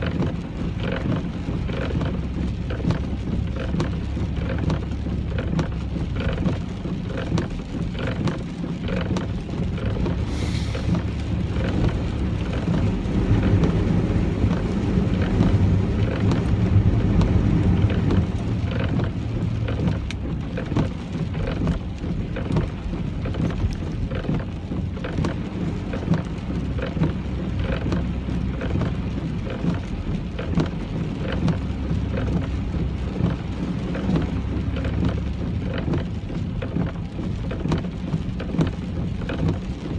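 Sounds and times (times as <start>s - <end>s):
rain pattering on car: 0.0s - 39.9s
road and engine rumble: 0.0s - 39.9s.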